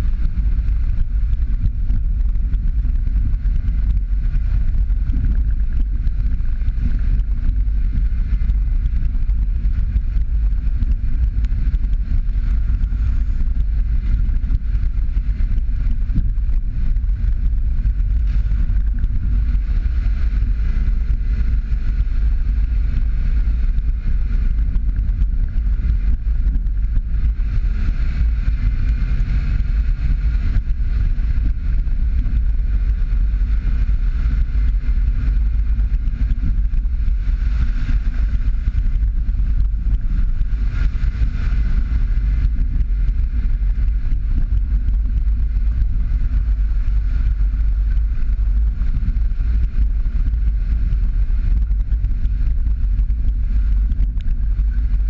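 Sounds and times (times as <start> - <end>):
car engine rumbling: 0.0 - 55.0
tyres on dirt road: 0.0 - 55.0
wind buffeting microphone: 0.0 - 55.0.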